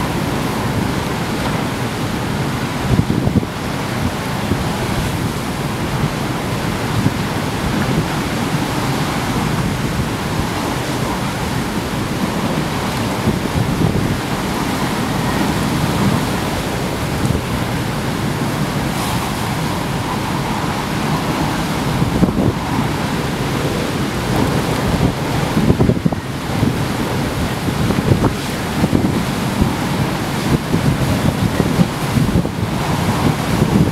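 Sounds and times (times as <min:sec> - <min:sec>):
storm surf breaking: 0:00.0 - 0:33.9
wind buffeting microphone: 0:00.0 - 0:33.9.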